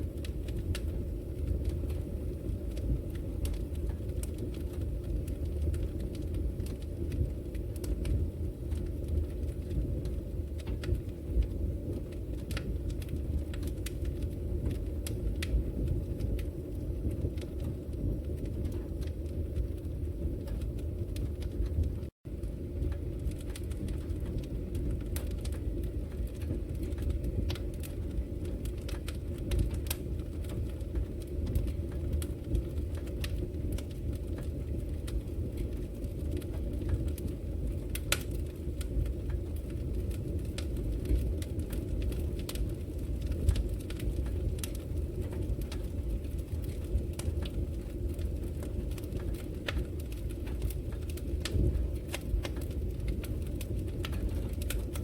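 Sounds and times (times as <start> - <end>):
fire low rumble: 0.0 - 55.0
logs crackling and popping: 0.0 - 55.0.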